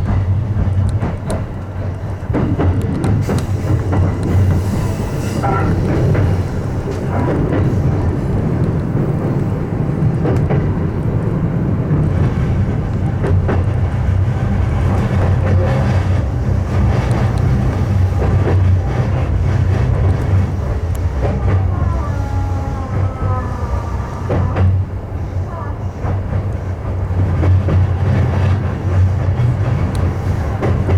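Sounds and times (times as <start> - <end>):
train wheels rumbling on rail: 0.0 - 30.9
train whine: 0.0 - 30.9.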